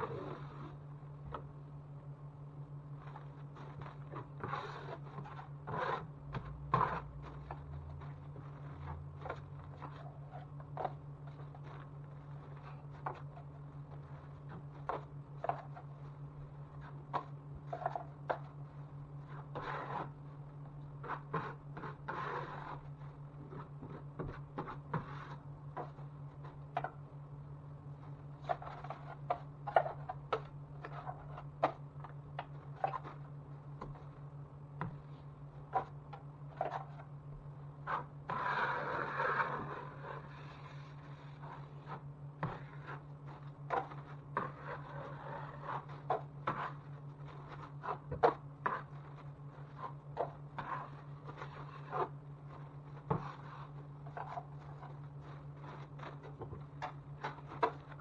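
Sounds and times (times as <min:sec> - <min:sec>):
steady low hum: 0:00.0 - 0:58.0
scrapes and light knocks on drywall: 0:02.9 - 0:27.0, 0:28.1 - 0:34.1, 0:37.8 - 0:58.0.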